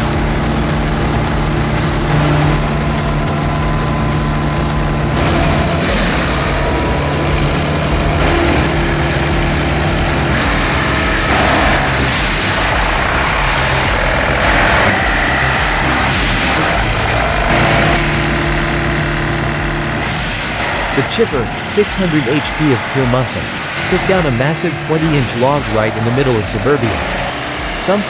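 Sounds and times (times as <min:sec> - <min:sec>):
heavy machine engine running: 0:00.0 - 0:28.0
rough mechanical noise: 0:00.0 - 0:28.0.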